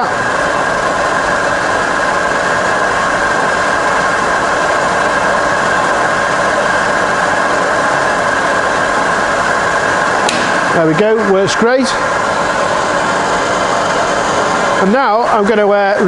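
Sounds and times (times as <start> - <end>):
milling machine humming and whining: 0.0 - 16.0.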